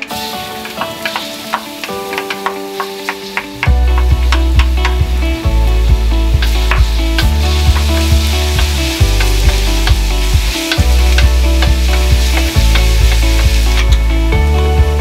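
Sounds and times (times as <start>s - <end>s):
garlic sizzling in hot oil: 0.0s - 14.3s
background music with beat: 0.0s - 15.0s.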